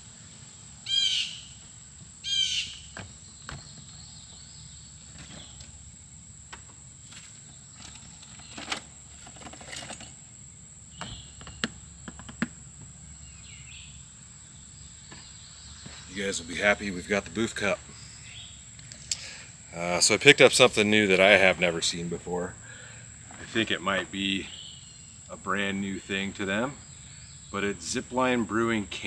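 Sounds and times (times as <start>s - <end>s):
loud bird calls: 0.0s - 6.2s, 7.2s - 29.0s
insects droning: 0.0s - 29.0s.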